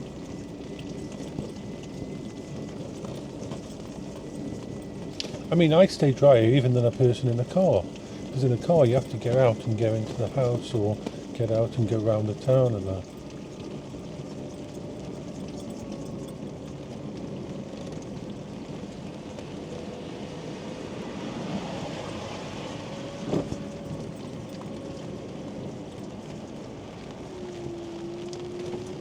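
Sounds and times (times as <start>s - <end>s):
mobility scooter humming: 0.0s - 29.0s
rain on wet road: 0.0s - 29.0s.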